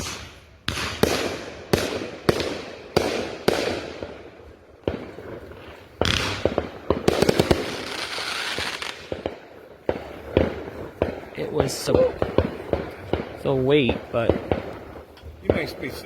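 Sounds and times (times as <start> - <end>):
crackling firework pops: 0.0 - 4.2, 4.8 - 16.0
firework bangs: 0.0 - 16.0.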